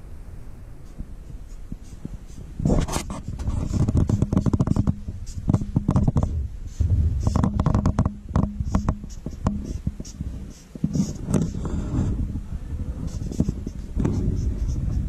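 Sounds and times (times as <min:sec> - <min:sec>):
marker scratching on paper: 0:00.8 - 0:12.2, 0:12.9 - 0:15.0.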